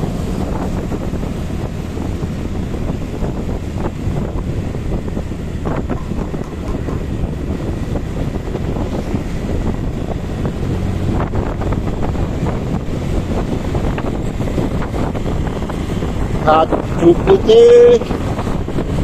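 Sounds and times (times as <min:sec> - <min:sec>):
scooter engines running: 0:00.0 - 0:19.0
wind buffeting microphone: 0:00.0 - 0:19.0.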